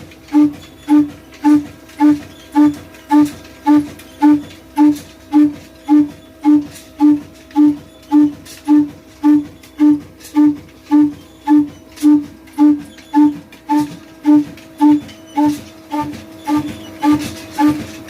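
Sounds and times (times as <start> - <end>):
stationary diesel engine running: 0.0 - 18.0.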